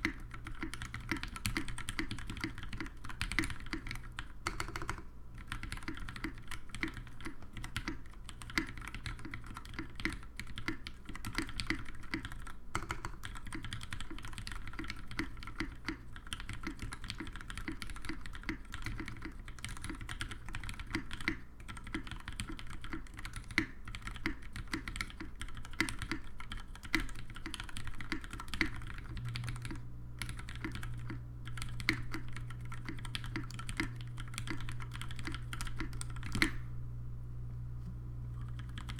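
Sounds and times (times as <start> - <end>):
mechanical keyboard typing: 0.0 - 36.6, 38.3 - 38.9
steady low hum: 0.0 - 38.9.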